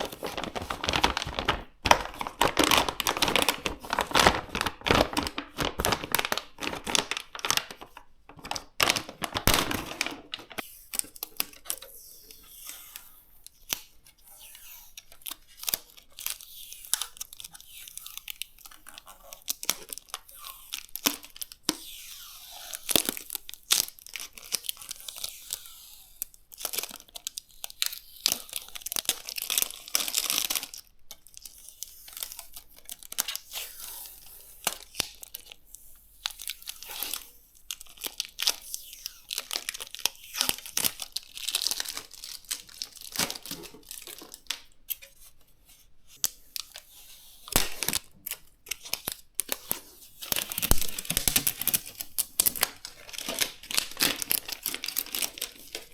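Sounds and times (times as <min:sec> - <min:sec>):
plastic packaging crinkling: 0:00.0 - 0:12.1, 0:13.5 - 0:45.5, 0:46.1 - 0:55.9.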